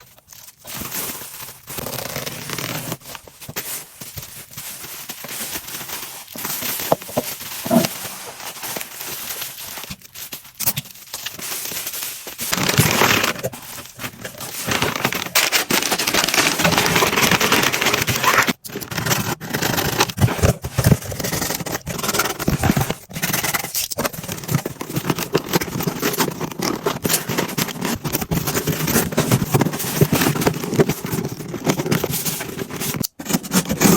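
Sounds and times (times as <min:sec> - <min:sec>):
scraping and tearing: 0:00.0 - 0:33.9
wrapping material crinkling: 0:00.0 - 0:33.9.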